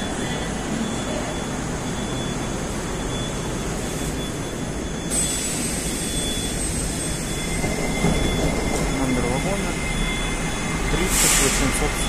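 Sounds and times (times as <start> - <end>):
train hum and hiss: 0.0 - 12.0.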